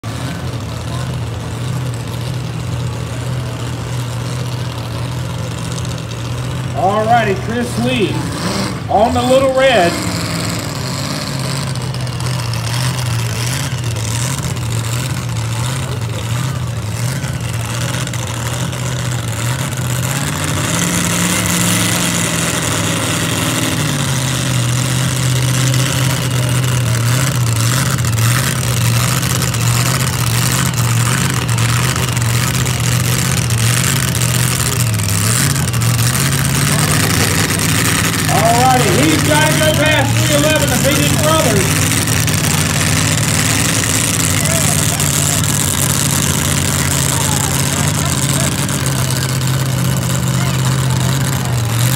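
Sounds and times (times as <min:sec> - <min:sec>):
tractor engine running hard: 0:00.0 - 0:51.9.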